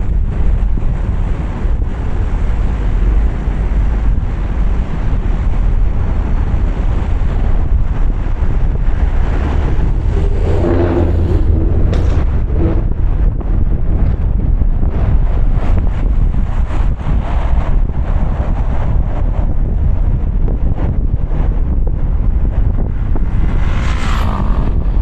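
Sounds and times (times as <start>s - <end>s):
car driving on wet road: 0.0s - 18.7s, 22.4s - 25.0s.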